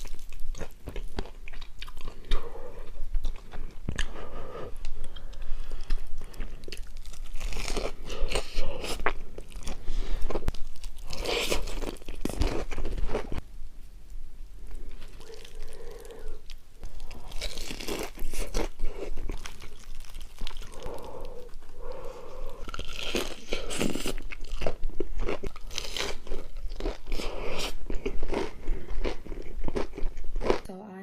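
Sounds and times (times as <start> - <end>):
crunchy food chewing: 0.0 - 13.4, 14.7 - 30.7.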